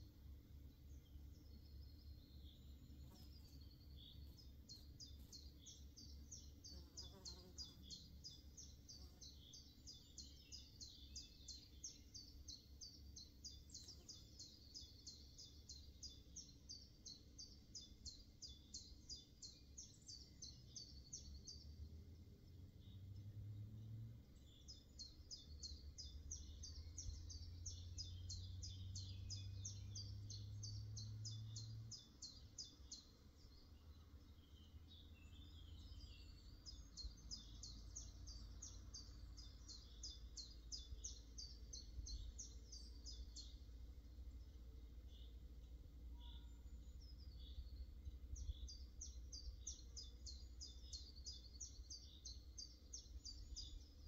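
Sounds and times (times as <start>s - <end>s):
songbird rapid high chirps: 0.0s - 23.0s, 24.3s - 54.0s.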